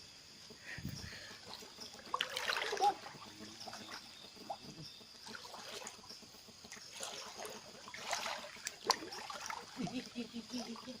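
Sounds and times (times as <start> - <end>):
river water splashing and trickling: 1.0 - 11.0.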